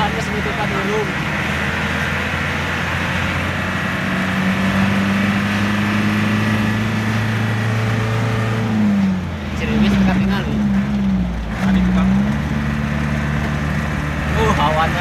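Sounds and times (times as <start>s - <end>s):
road noise: 0.0s - 15.0s
truck engine humming: 0.0s - 15.0s.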